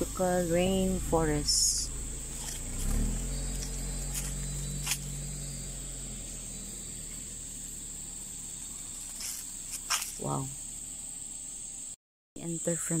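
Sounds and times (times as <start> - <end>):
insect chorus drone: 0.0 - 13.0
low car engine hum: 0.0 - 13.0.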